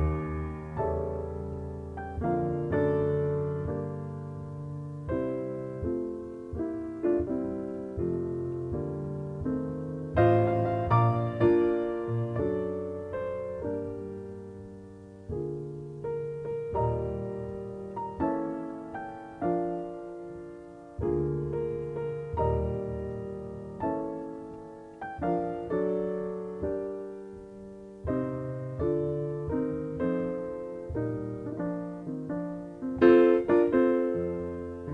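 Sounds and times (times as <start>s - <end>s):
solo piano music: 0.0s - 34.9s.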